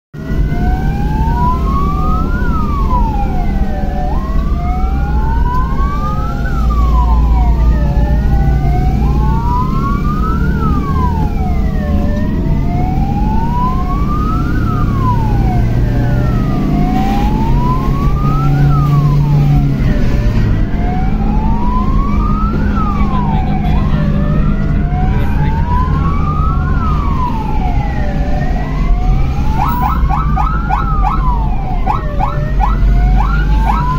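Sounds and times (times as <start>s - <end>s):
vehicle engine and road rumble: 0.1s - 33.9s
ambulance sirens wailing: 0.2s - 33.9s.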